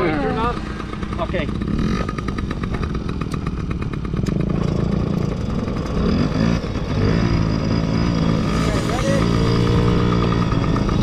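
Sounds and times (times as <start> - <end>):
dirt bike engines idling: 0.0 - 11.0.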